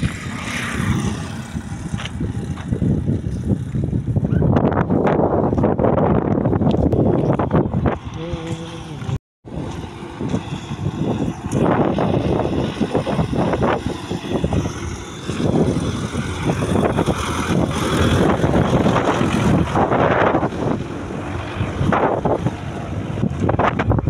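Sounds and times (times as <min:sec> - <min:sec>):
tractor engine passing: 0:00.0 - 0:24.0
wind buffeting microphone: 0:00.0 - 0:24.0.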